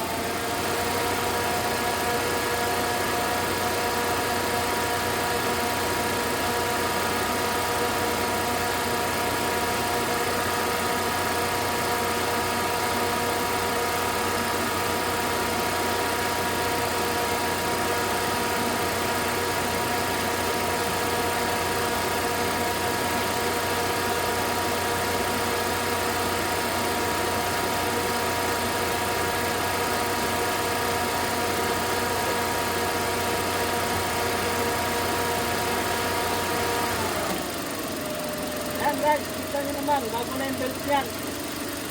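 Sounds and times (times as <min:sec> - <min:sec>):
pickup engine idling: 0:00.0 - 0:41.9.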